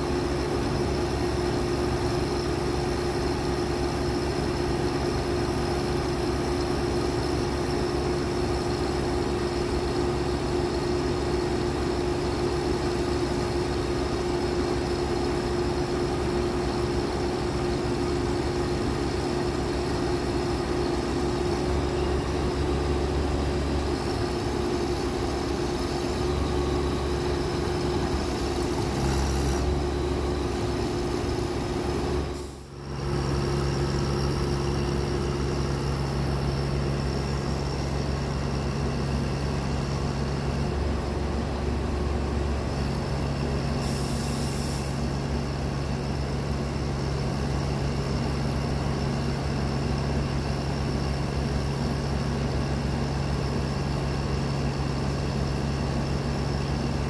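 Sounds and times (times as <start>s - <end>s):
truck engine running under load: 0.0s - 57.0s.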